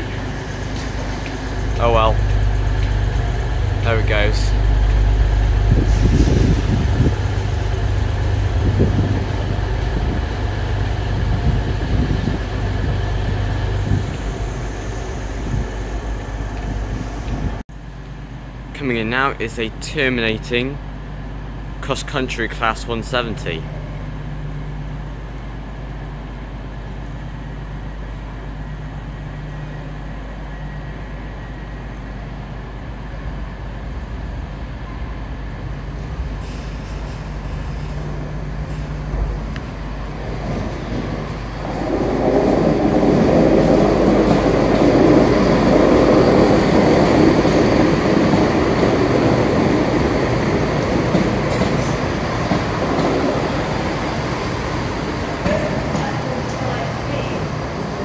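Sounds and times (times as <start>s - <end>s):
diesel train arriving: 0.0s - 58.0s.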